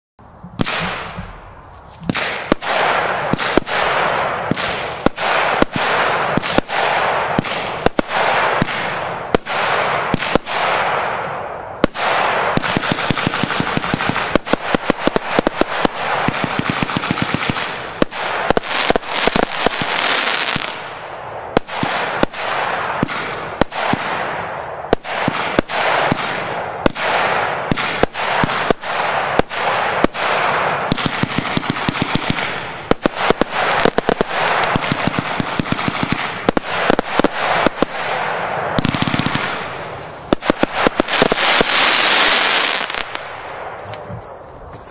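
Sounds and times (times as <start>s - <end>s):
firework crackling and hissing: 0.2s - 44.9s
firework launch bangs: 0.5s - 44.3s.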